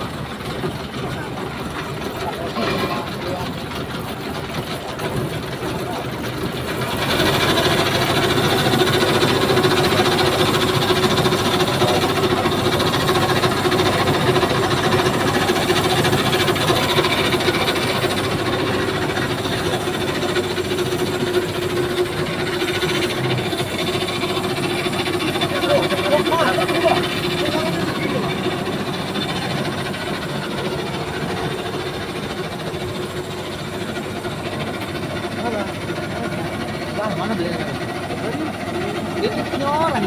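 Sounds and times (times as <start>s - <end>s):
tow truck engine running: 0.0s - 40.0s.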